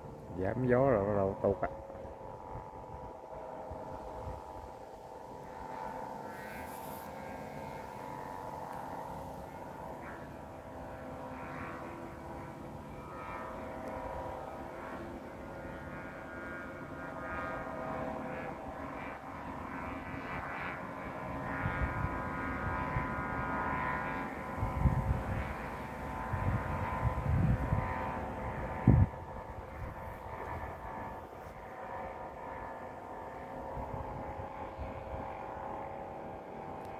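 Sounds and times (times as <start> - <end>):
kite hummer droning: 0.0 - 36.9
wind rumbling on microphone: 0.0 - 36.9.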